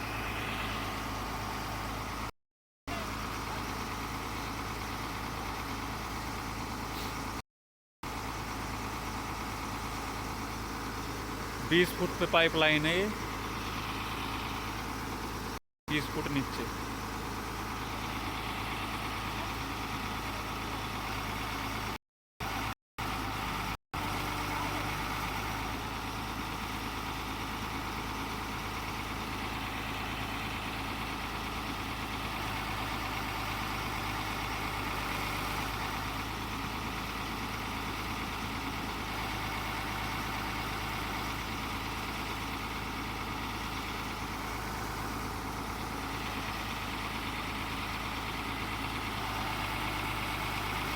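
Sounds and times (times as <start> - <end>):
excavator diesel engine running: 0.0 - 2.3, 2.9 - 7.4, 8.0 - 50.9.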